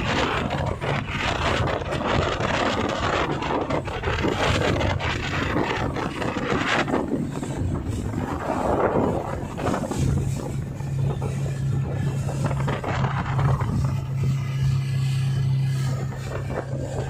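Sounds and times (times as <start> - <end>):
outboard motor running: 0.0 - 17.0
wake water rushing: 0.0 - 17.0
wind buffeting microphone: 0.0 - 17.0.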